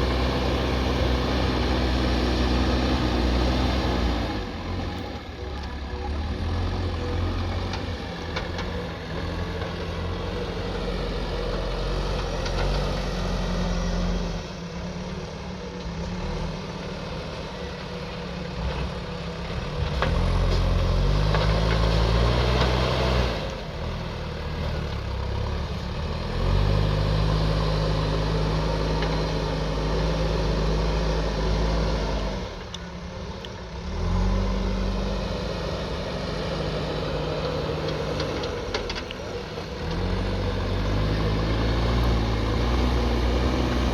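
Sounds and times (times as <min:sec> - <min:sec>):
diesel engine revving: 0:00.0 - 0:43.9.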